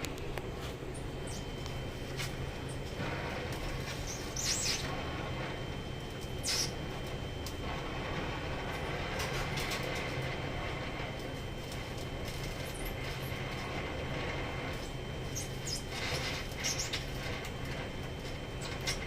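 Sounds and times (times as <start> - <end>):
welding torch flame hissing: 0.0 - 19.0.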